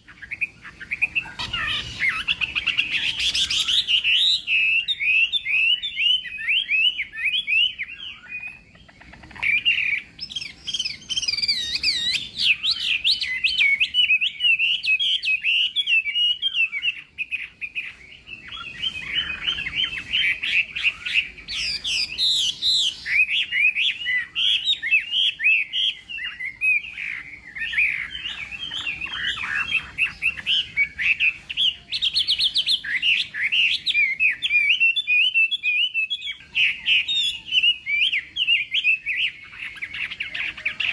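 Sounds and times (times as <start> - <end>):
bird singing whistles and trills: 0.0 - 40.9.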